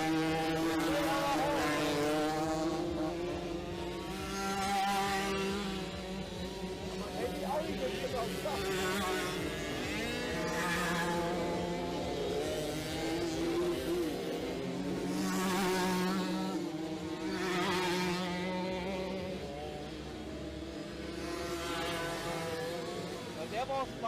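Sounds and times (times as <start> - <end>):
moped engines buzzing: 0.0 - 24.0.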